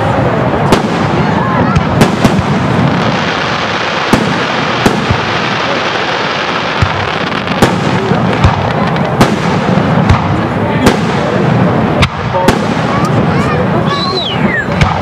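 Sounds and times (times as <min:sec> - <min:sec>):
continuous rush of noise: 0:00.0 - 0:15.0.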